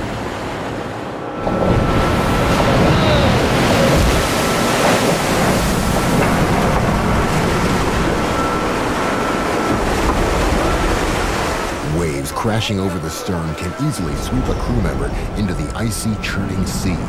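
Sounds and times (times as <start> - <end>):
seawater rushing across deck: 0.0 - 17.0.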